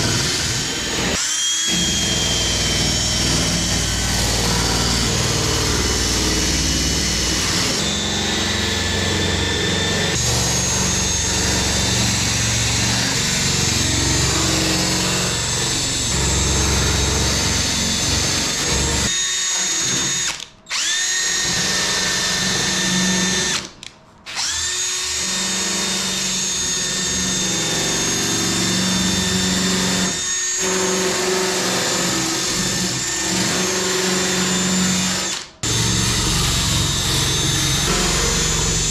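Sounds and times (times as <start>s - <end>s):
power tool grinding metal: 0.0s - 23.7s, 24.3s - 38.9s.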